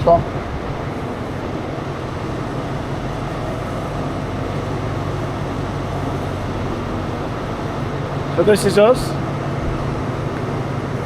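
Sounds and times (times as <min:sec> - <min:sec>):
train engine idling hum: 0:00.0 - 0:11.0.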